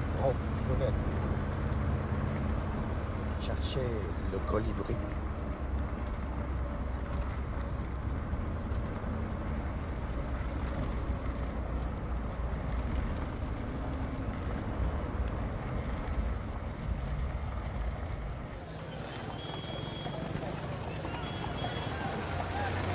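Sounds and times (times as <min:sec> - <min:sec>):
car engine and road noise: 0:00.0 - 0:22.9.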